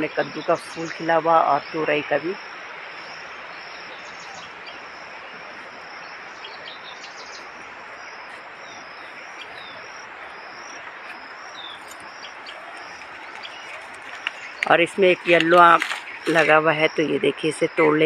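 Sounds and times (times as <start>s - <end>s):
birds chirping: 0.0s - 18.0s
insect trill: 0.0s - 18.0s.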